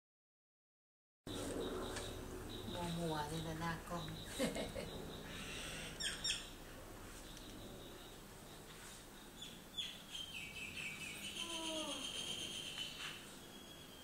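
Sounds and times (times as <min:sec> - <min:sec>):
birds chirping: 0:01.3 - 0:14.0.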